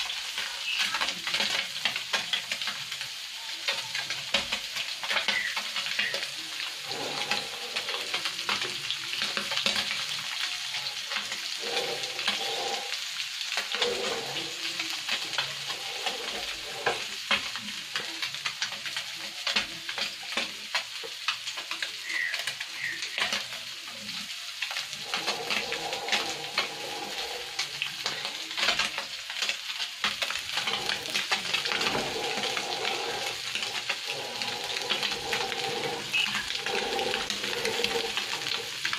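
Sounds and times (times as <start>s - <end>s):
fish deep-frying in oil: 0.0s - 38.9s
popping oil crackle: 0.0s - 38.9s.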